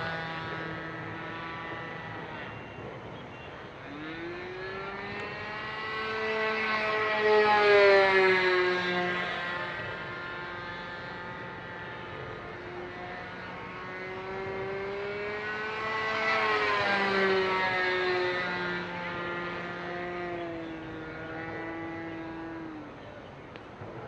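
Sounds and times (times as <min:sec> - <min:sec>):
model airplane engine flying past: 0:00.0 - 0:24.0.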